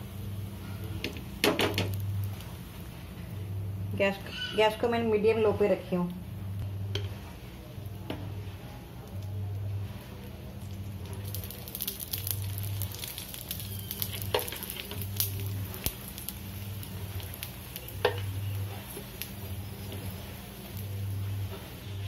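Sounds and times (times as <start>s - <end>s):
food sizzling on a hot griddle: 0.0s - 3.0s, 7.0s - 22.0s.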